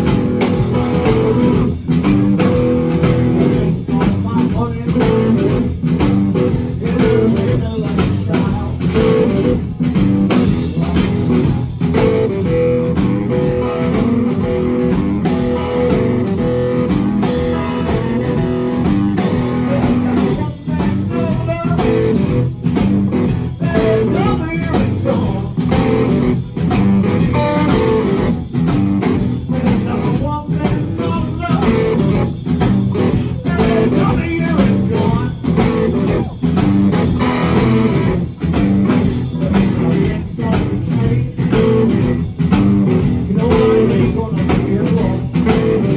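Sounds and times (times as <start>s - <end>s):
drum kit: 0.0s - 45.9s
electric guitars playing blues: 0.0s - 45.9s.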